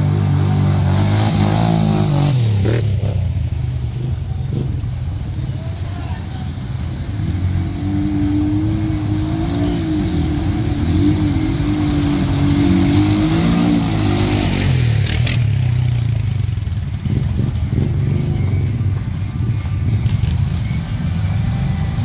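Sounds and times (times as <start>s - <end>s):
off-road vehicle engine revving: 0.0s - 5.4s, 6.6s - 22.0s.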